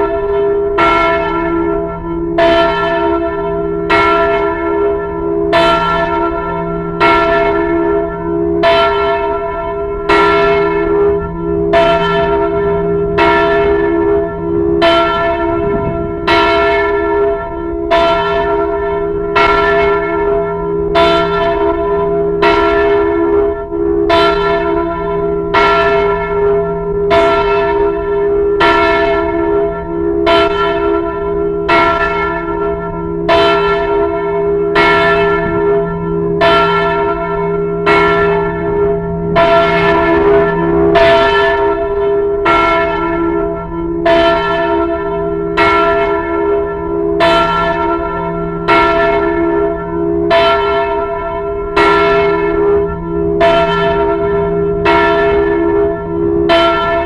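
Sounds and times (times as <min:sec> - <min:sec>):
temple bell ringing: 0:00.0 - 0:57.0.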